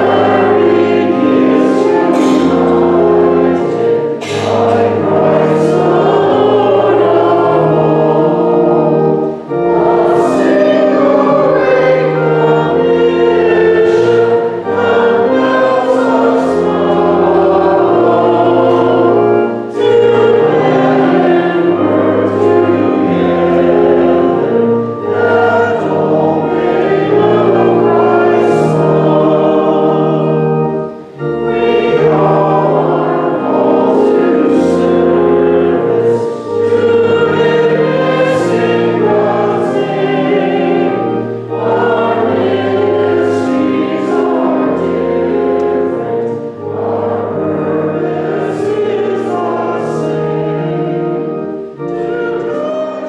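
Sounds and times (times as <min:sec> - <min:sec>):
congregation singing a hymn: 0:00.0 - 0:53.0
held instrumental chords: 0:00.0 - 0:53.0.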